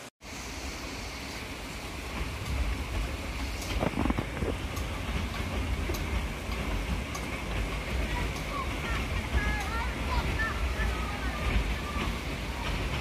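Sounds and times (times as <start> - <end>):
train rumbling: 0.0 - 13.0
wind buffeting microphone: 2.2 - 13.0.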